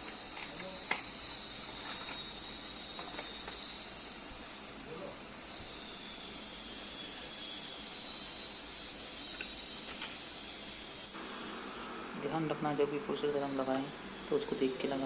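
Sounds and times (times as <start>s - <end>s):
thin high-pitched whine: 0.0s - 15.0s.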